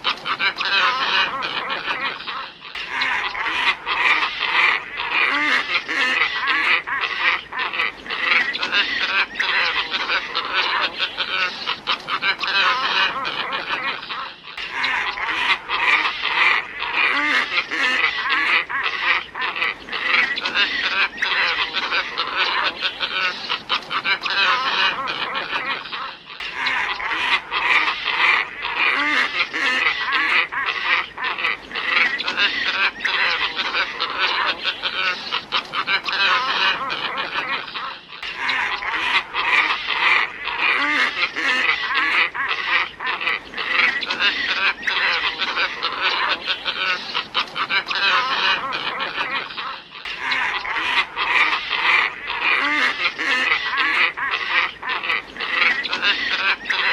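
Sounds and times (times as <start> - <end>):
ibises calling: 0.0 - 56.9.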